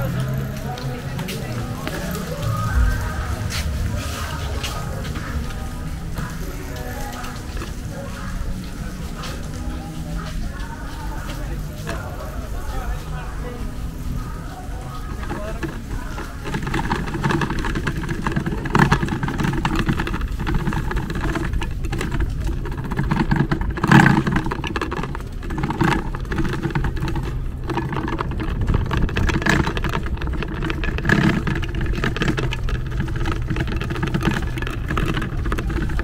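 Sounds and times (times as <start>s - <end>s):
bicycle rattling jolts: 0.0s - 36.0s
bicycle rolling over bricks: 0.0s - 36.0s.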